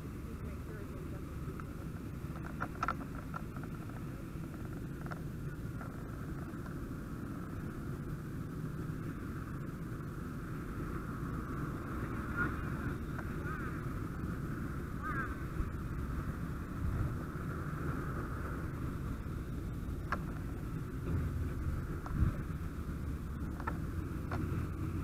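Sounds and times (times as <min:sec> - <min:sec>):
diesel engine rumble: 0:00.0 - 0:25.0.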